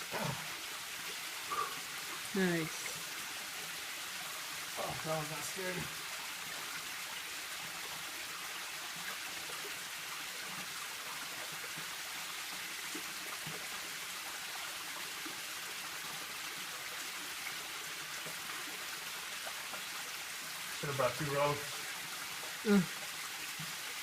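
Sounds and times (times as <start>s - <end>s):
waterfall rushing and splashing: 0.0s - 24.0s.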